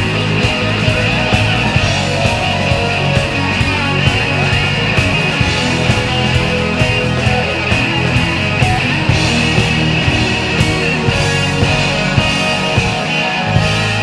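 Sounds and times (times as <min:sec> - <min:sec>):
drum beat: 0:00.0 - 0:14.0
electric guitar: 0:00.0 - 0:14.0.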